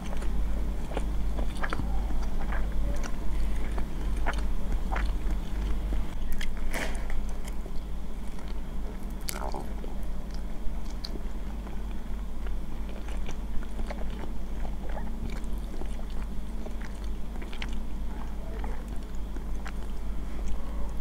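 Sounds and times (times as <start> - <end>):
chewing noodles: 0.0 - 21.0.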